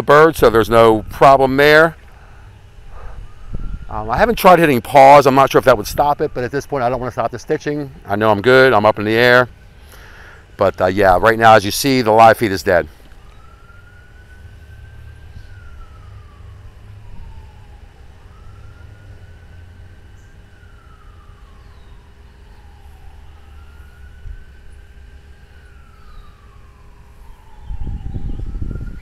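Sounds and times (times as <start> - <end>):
faint siren wailing: 0.0 - 29.0.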